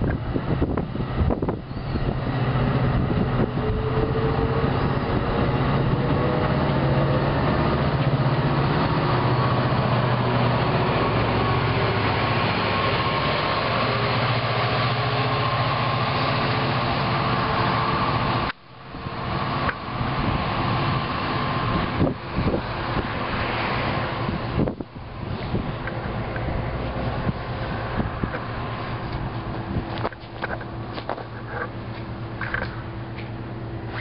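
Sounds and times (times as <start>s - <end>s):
locomotive engine drone: 0.0s - 34.0s
train wheels rumbling: 0.0s - 34.0s.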